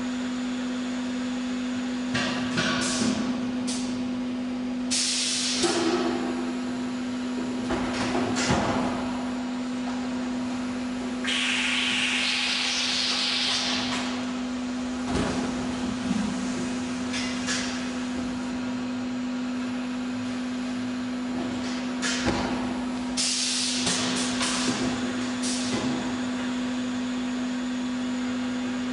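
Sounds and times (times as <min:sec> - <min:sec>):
filling machine hum: 0:00.0 - 0:28.9.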